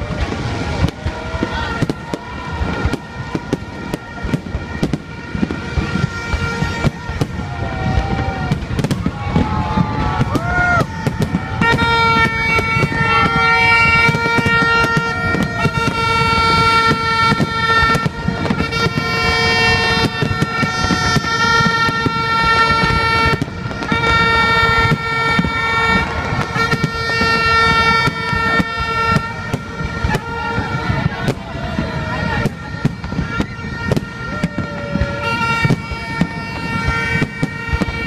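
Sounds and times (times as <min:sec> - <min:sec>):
fireworks crackling and banging: 0:00.0 - 0:38.0
horn blowing long note: 0:00.0 - 0:38.0.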